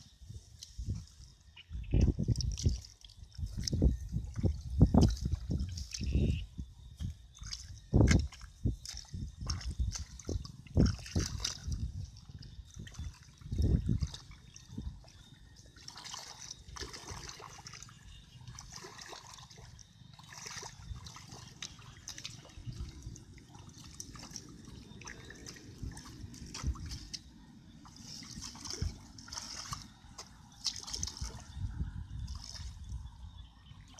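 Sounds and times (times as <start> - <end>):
water trickling and splashing: 0.0 - 33.9.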